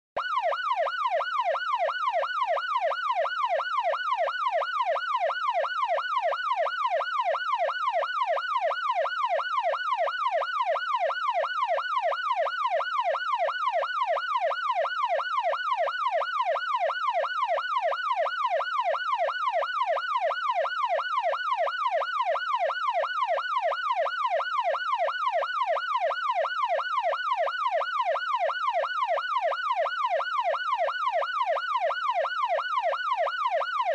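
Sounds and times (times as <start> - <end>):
police siren yelping: 0.2 - 33.9.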